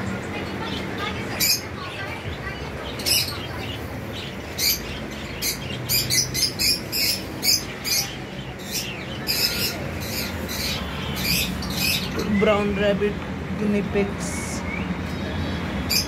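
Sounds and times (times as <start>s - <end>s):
budgerigars chirping and squawking: 0.6s - 13.0s, 14.5s - 16.0s.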